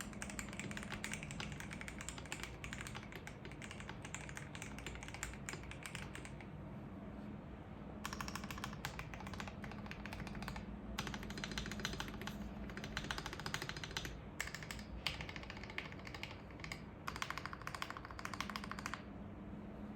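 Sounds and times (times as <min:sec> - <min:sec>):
mechanical keyboard typing: 0:00.0 - 0:06.5, 0:08.0 - 0:19.1.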